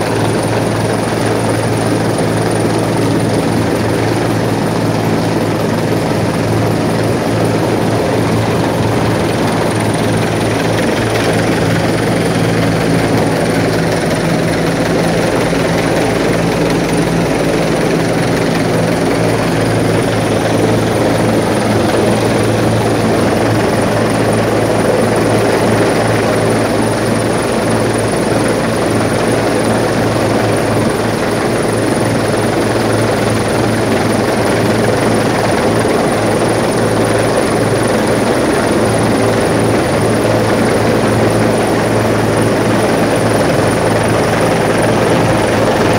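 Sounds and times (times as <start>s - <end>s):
helicopter hovering overhead: 0.0s - 45.9s.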